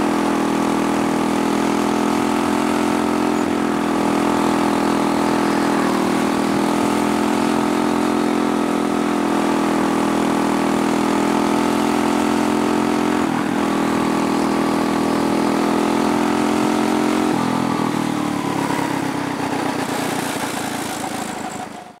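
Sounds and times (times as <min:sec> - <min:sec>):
small engine running at high speed: 0:00.0 - 0:22.0.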